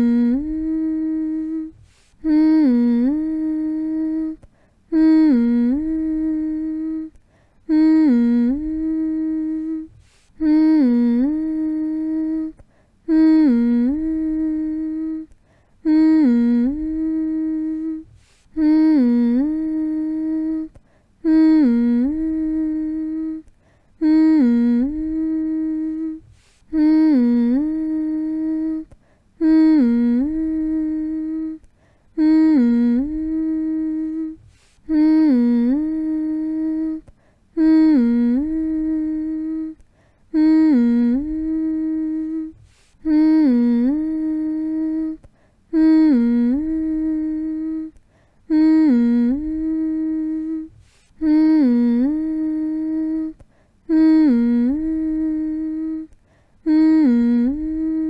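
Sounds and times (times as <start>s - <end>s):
person humming: 0.0s - 58.0s.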